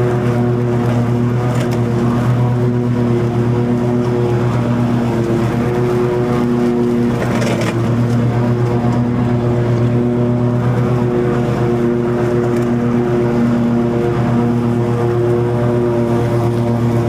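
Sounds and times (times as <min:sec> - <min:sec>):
lawn mower running: 0:00.0 - 0:17.0.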